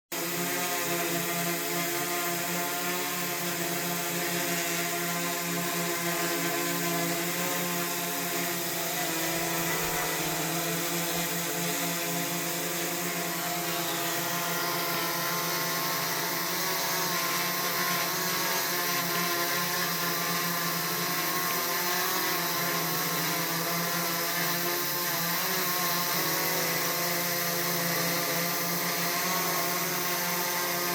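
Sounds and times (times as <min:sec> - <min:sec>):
drone propellers buzzing: 0:00.2 - 0:30.9.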